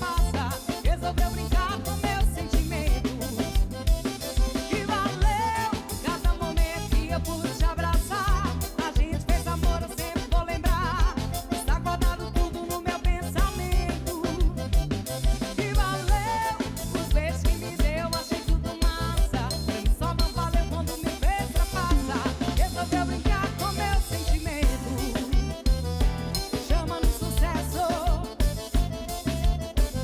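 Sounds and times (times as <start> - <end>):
drum kit beat: 0.0 - 30.0
wavering melodic lead line: 0.0 - 30.0.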